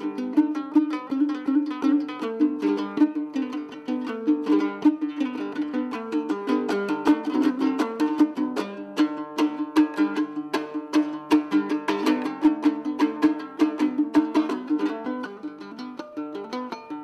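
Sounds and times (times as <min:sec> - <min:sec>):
lute strummed: 0:00.0 - 0:17.0.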